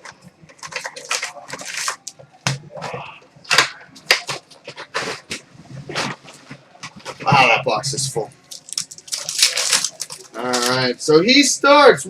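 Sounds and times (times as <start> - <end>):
cardboard and wrapping crackling: 0.0 - 11.0.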